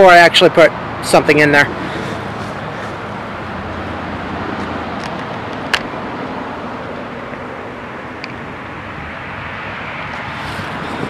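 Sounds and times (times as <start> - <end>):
steady traffic: 0.0 - 11.0.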